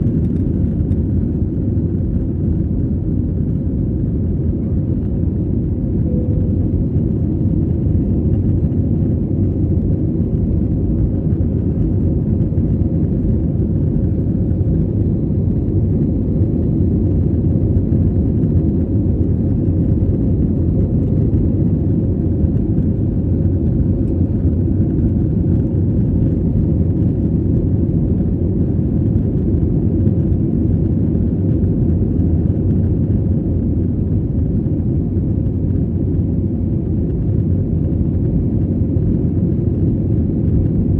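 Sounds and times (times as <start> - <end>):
jet engine rumble inside cabin: 0.0 - 40.9.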